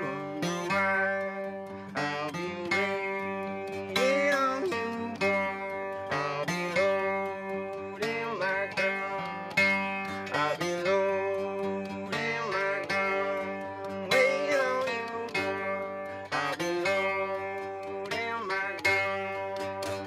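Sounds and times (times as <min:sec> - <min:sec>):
man singing slow song: 0:00.0 - 0:19.7
acoustic guitar strumming: 0:00.0 - 0:20.0.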